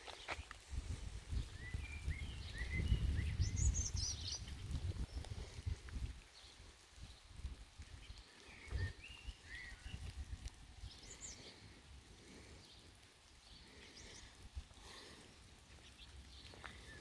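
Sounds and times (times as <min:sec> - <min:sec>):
faint rain falling: 0:00.0 - 0:17.0
birds chirping: 0:01.3 - 0:17.0.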